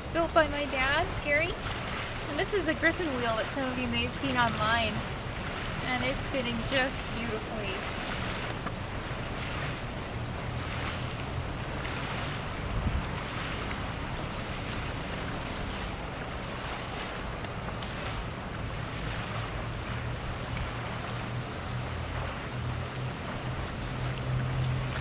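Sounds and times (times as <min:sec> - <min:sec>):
low steady hum: 0:00.0 - 0:25.0
small waves washing on shore: 0:00.0 - 0:25.0
wind buffeting microphone: 0:00.0 - 0:25.0.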